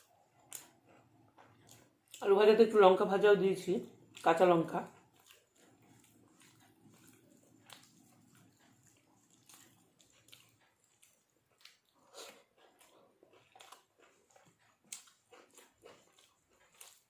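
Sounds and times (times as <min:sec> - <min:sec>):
chewing with small crunches: 0:00.0 - 0:17.0.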